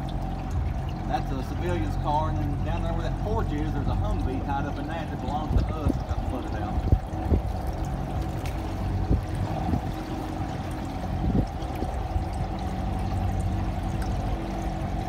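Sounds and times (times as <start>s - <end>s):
low mechanical hum: 0.0s - 15.0s
water pouring: 0.0s - 15.0s.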